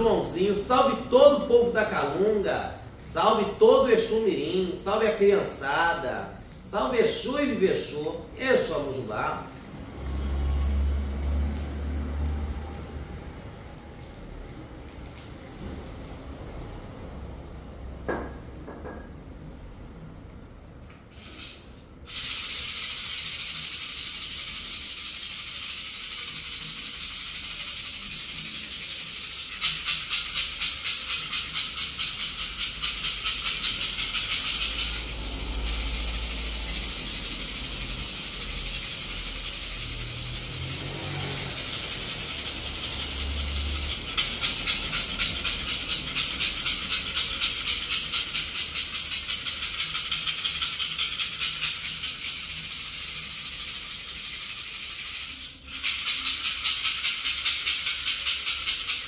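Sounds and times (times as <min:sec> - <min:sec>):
hand rattle shaking: 0:00.0 - 0:12.6, 0:21.1 - 0:59.0.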